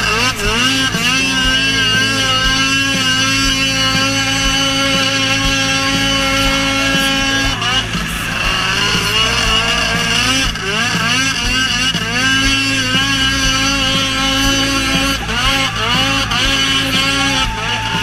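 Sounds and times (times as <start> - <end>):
snowmobile engine running hard: 0.0 - 18.0.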